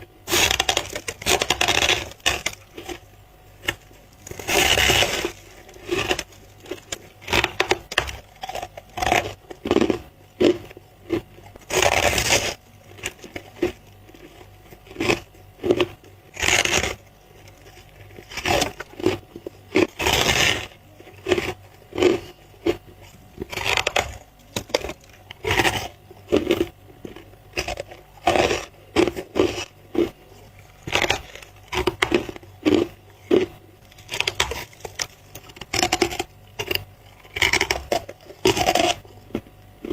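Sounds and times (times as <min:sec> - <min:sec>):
person crunching ice: 0:00.2 - 0:39.9.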